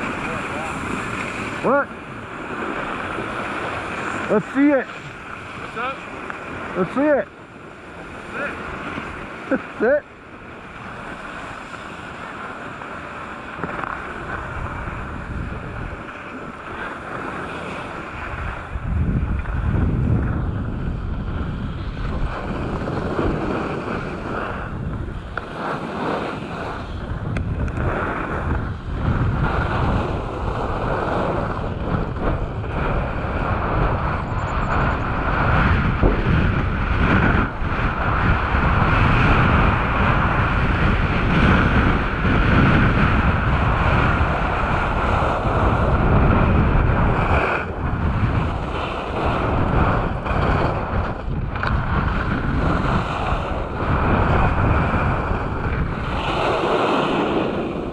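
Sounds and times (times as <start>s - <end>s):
skis scraping on snow: 0.0s - 57.9s
wind rushing over microphone: 0.0s - 57.9s.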